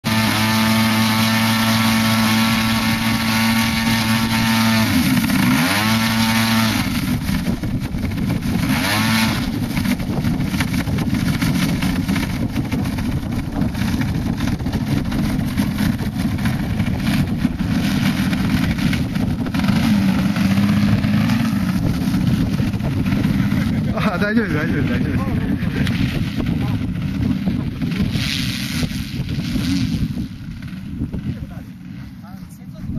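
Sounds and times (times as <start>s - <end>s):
model plane engine running: 0.0s - 32.9s.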